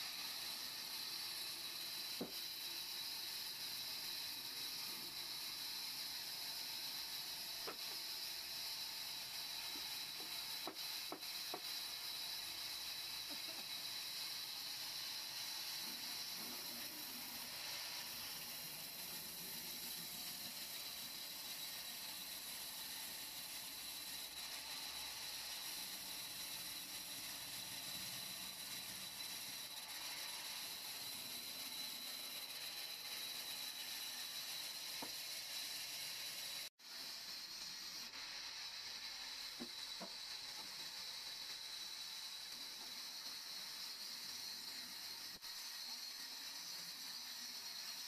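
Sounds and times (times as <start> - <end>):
band saw cutting wood: 0.0 - 48.0.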